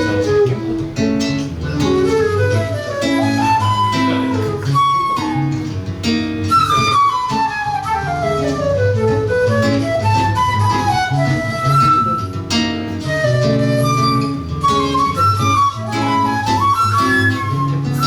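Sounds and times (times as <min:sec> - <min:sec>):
flute melody: 0:00.0 - 0:18.0
guitar plucking: 0:00.0 - 0:18.0.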